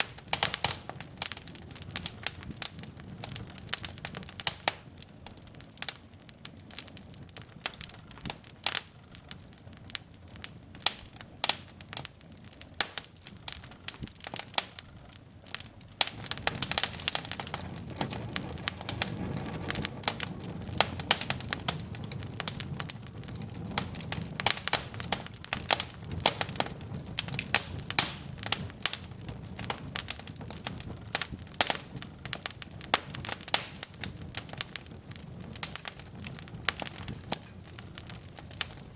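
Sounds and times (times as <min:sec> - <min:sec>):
logs crackling and popping in fire: 0:00.0 - 0:38.9
low flame rumble: 0:00.0 - 0:38.9.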